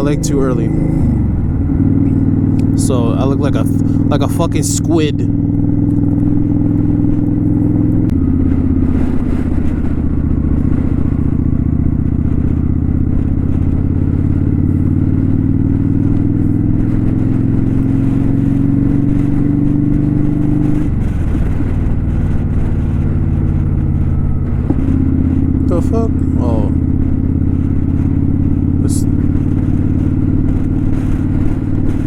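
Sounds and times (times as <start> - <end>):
motorcycle engine under way: 0.0 - 32.0.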